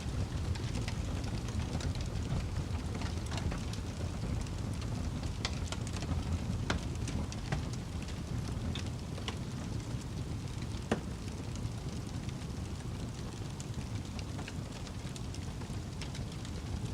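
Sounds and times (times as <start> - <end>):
burning wood crackling and popping: 0.0 - 16.9
low rumble of flames: 0.0 - 16.9.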